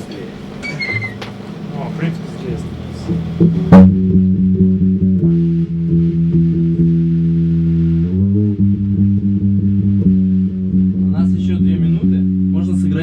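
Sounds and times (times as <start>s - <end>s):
bass guitar: 0.6s - 13.0s.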